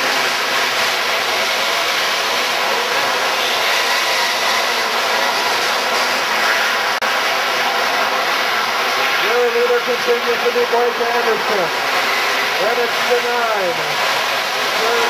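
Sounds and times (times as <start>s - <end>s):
dirt kart engines racing: 0.0s - 15.0s.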